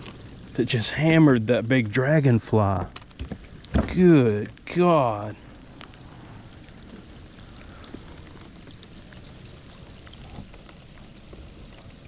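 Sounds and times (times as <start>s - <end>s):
rain falling on water: 0.0s - 12.0s.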